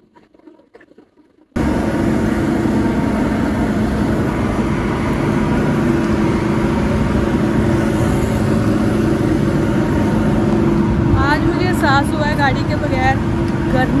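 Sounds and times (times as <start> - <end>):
street traffic hum: 1.6 - 14.0.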